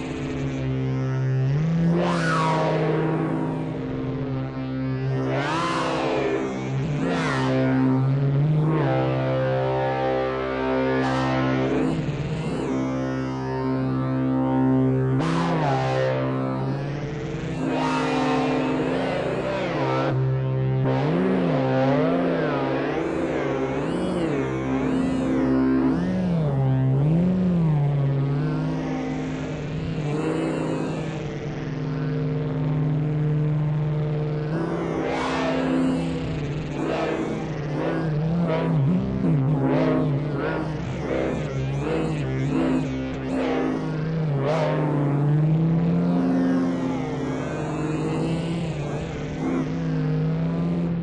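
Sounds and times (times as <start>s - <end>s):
synthesizer buzzy droning note: 0.0s - 51.0s.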